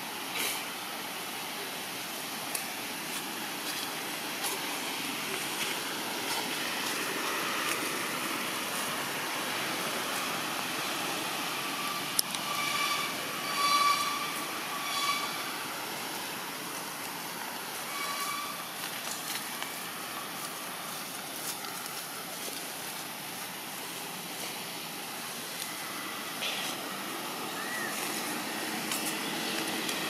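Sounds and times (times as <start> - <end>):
steady rushing background noise: 0.0 - 30.0.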